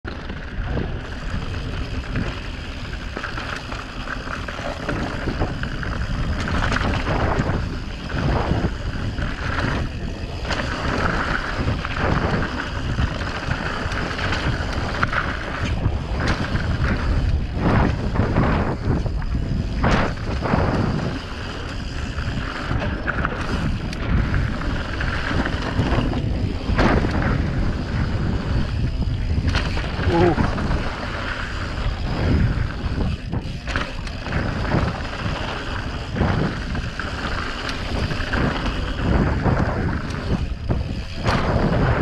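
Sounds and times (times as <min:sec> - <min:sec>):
wind buffeting microphone: 0:00.0 - 0:42.0
bike rattles and knocks: 0:00.1 - 0:42.0
tyres rumbling on dirt: 0:00.1 - 0:42.0.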